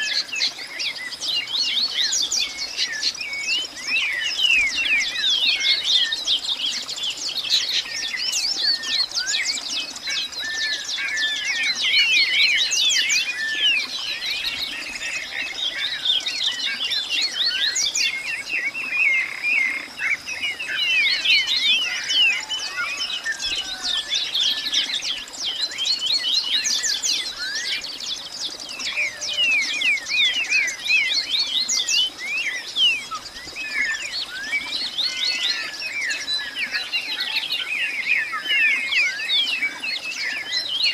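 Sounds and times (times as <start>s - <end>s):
birds chirping and whistling: 0.0s - 40.9s.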